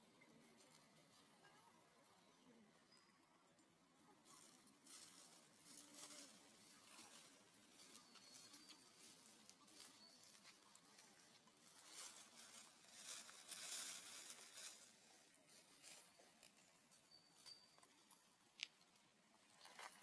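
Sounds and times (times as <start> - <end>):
faint rustling and scratching: 0.0 - 20.0.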